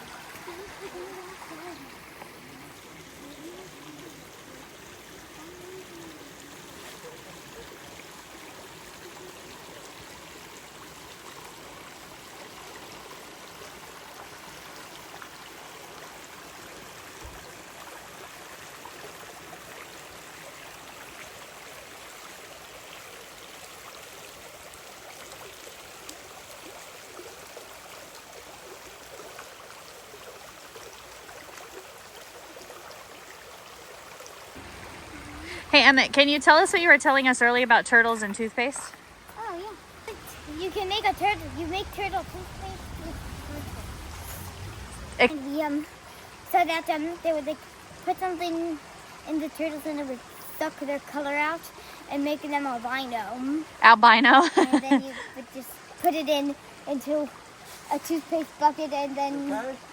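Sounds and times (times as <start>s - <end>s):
small stream flowing: 0.0s - 59.9s.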